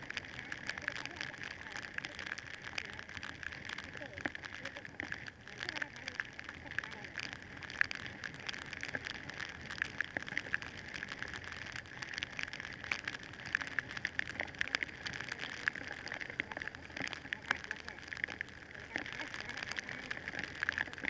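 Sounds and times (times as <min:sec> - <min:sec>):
rain drops striking camera: 0:00.0 - 0:21.0
rain hiss: 0:00.0 - 0:21.0.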